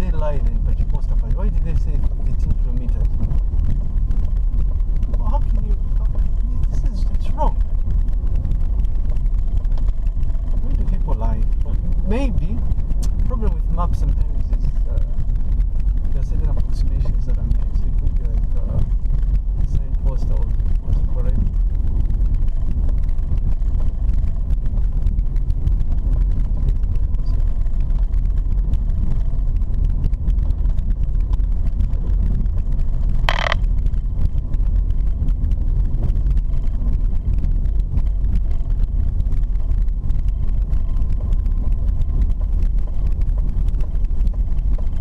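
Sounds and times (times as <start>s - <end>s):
car engine rumble: 0.0s - 45.0s
tyres on dirt road: 0.0s - 45.0s.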